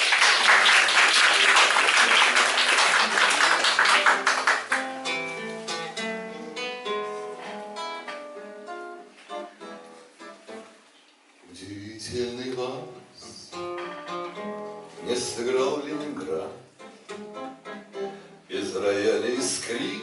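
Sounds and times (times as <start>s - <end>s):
acoustic guitar playing: 1.4s - 11.0s, 11.9s - 20.0s.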